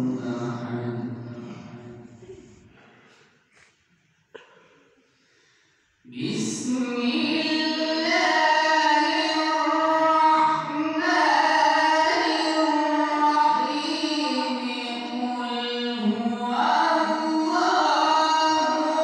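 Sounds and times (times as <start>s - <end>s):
man reciting melodically into microphone: 0.0s - 2.4s, 6.1s - 19.0s.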